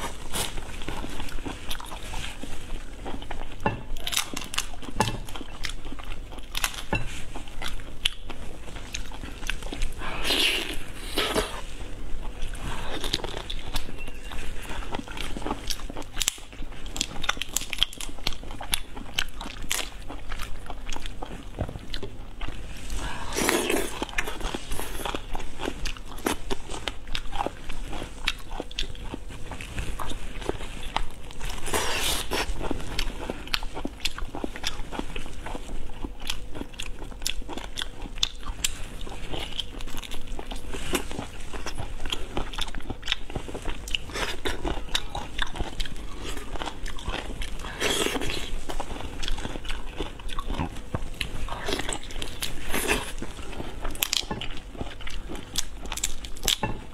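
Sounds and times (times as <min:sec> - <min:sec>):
close-miked chewing and biting: 0:00.0 - 0:56.9.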